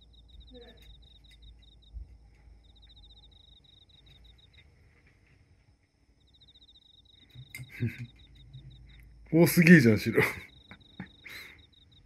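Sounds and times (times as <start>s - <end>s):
faint insect-like chirping: 0.0s - 12.0s.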